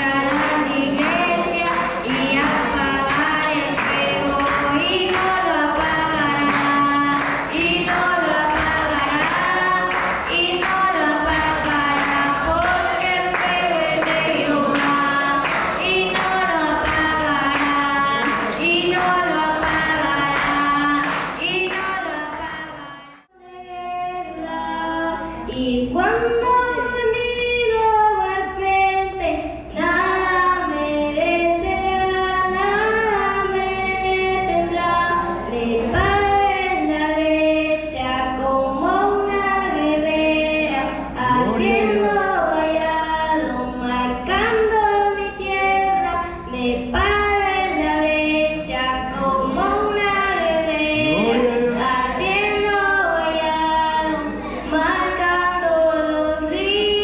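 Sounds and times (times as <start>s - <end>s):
girl singing through loudspeakers: 0.0s - 57.0s.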